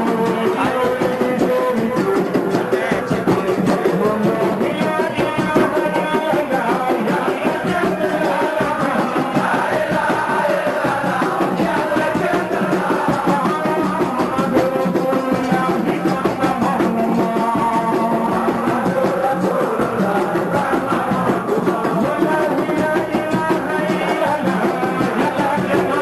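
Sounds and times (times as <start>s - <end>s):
steady drum beat: 0.0s - 26.0s
voices chanting religious song: 0.0s - 26.0s.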